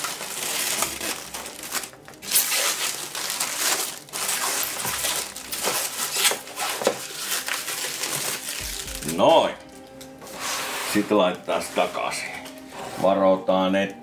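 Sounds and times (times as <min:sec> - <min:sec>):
plastic film crinkling: 0:00.0 - 0:12.7.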